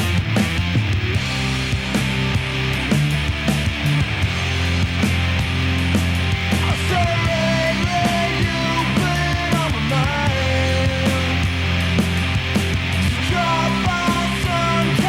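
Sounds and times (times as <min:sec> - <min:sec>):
loud rock music: 0:00.0 - 0:15.0
sliding lead guitar: 0:00.0 - 0:15.0.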